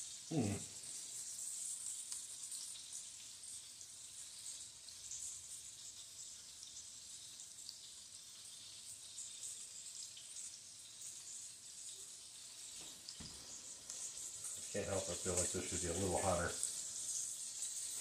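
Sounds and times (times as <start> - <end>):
patties sizzling in a pan: 0.0 - 18.0.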